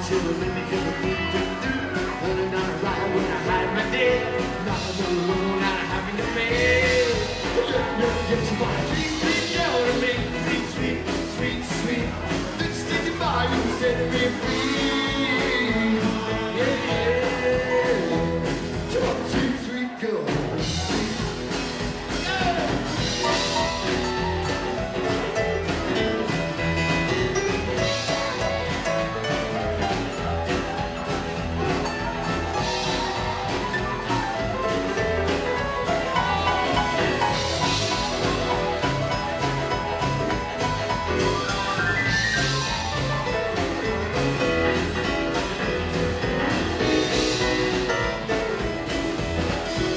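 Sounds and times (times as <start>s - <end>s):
upright double bass: 0.0s - 19.7s, 20.3s - 49.9s
acoustic guitar: 0.0s - 49.9s
drum kit: 0.0s - 49.9s
keyboard: 0.0s - 49.9s.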